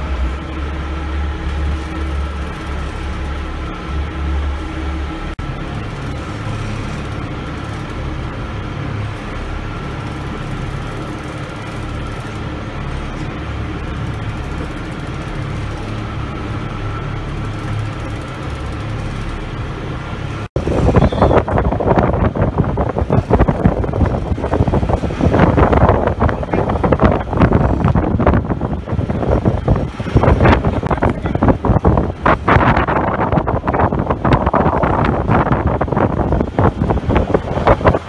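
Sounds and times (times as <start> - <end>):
boat engine droning: 0.0 - 38.0
wind buffeting microphone: 0.0 - 38.0.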